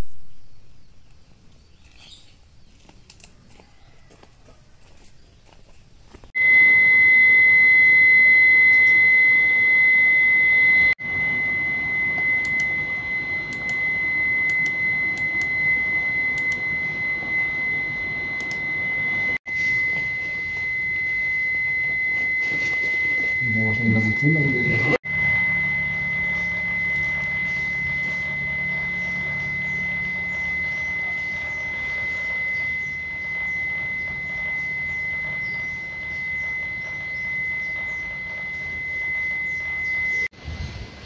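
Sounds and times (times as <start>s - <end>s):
high-pitched electronic tone: 6.4s - 40.4s.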